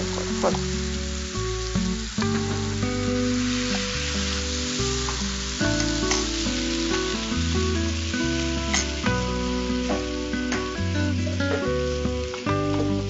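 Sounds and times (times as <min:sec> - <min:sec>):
background music: 0:00.0 - 0:13.0
chutney sizzling in hot oil: 0:00.0 - 0:13.0.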